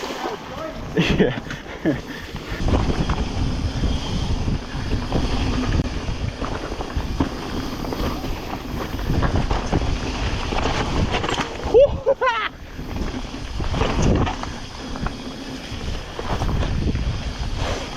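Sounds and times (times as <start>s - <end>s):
tyres rolling on wet dirt: 0.0s - 17.9s
wind buffeting microphone: 0.0s - 17.9s
bike knocks and rattles: 0.1s - 17.9s.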